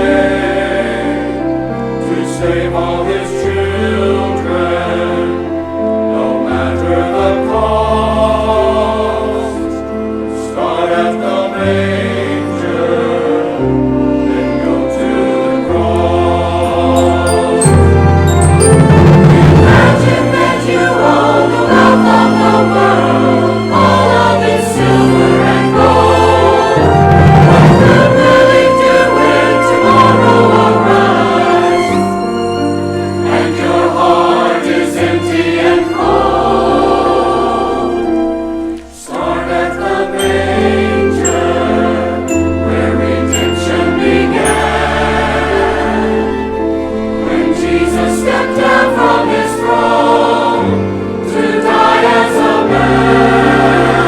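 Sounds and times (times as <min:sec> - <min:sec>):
church choir singing: 0:00.0 - 0:54.0
orchestral accompaniment: 0:00.0 - 0:54.0.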